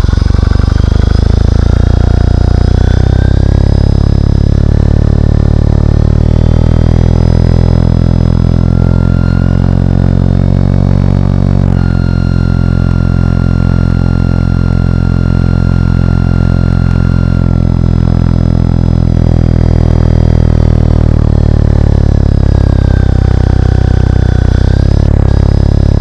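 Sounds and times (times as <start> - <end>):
deep propeller hum: 0.0 - 26.0
high electric motor whine: 0.0 - 26.0.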